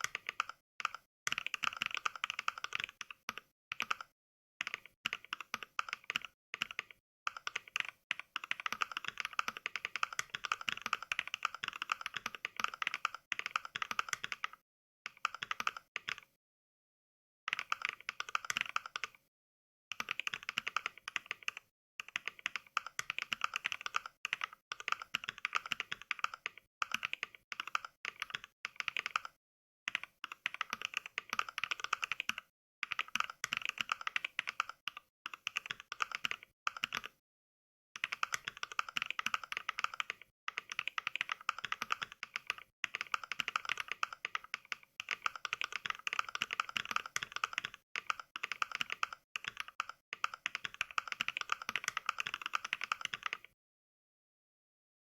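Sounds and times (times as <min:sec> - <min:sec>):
mechanical keyboard typing clacks: 0:00.0 - 0:16.3, 0:17.5 - 0:19.2, 0:19.9 - 0:29.3, 0:29.9 - 0:37.2, 0:38.0 - 0:53.6.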